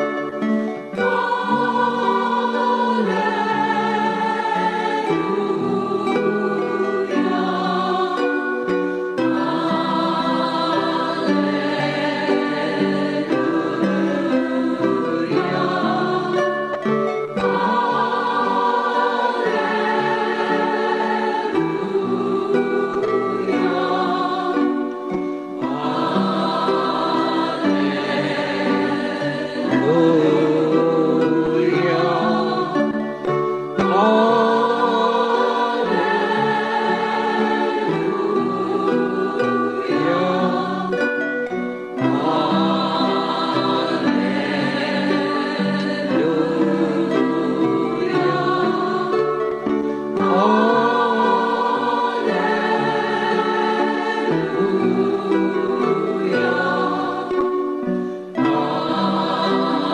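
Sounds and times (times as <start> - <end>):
choir-like voices singing chords: 0.0 - 59.9.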